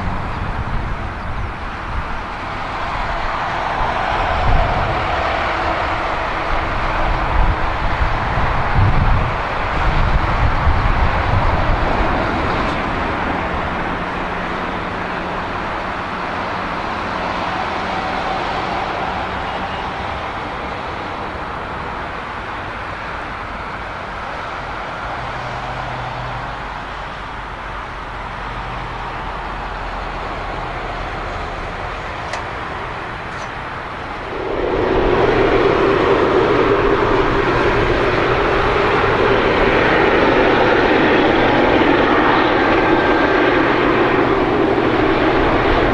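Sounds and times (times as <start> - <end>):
strong hum: 0.0 - 22.5, 30.1 - 45.9
jet engines rushing: 0.0 - 45.9.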